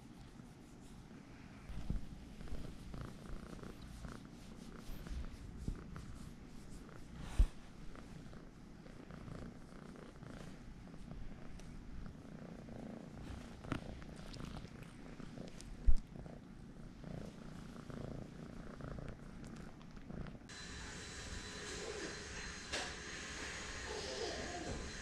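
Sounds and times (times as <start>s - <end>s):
cat purring: 0.0s - 22.5s.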